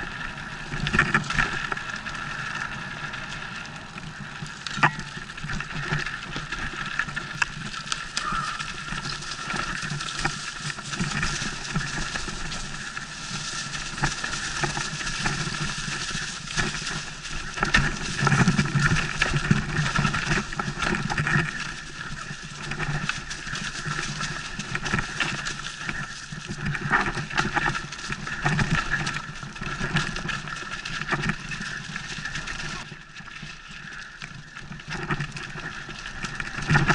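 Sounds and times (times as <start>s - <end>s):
bike rattling over bumps: 0.0s - 36.9s
bike tyres on dirt and stones: 0.0s - 36.9s.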